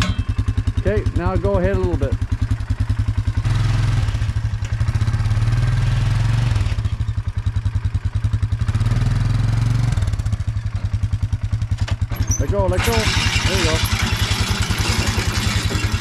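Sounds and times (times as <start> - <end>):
engine running at low speed: 0.0 - 16.0.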